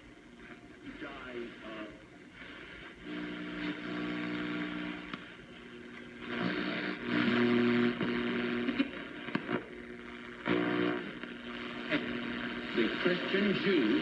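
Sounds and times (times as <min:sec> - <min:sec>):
radio static hiss: 0:00.0 - 0:14.0
steady low radio tones: 0:00.0 - 0:14.0.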